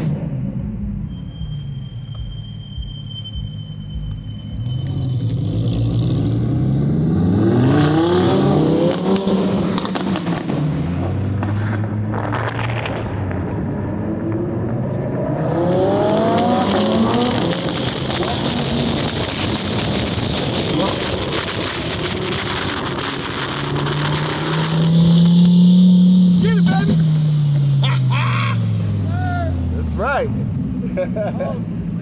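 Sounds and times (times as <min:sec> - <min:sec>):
supercar engines accelerating hard: 0:04.9 - 0:32.0.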